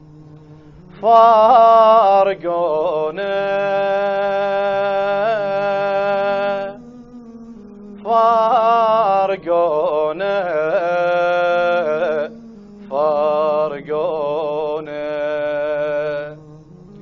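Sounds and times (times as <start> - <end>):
steady low hum: 0.0 - 17.0
person singing a slow lament: 0.8 - 6.9, 7.5 - 16.9.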